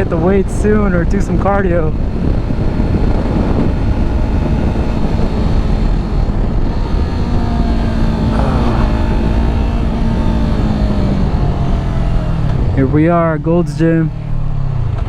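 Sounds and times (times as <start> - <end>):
wind rumble on microphone: 0.0 - 13.4.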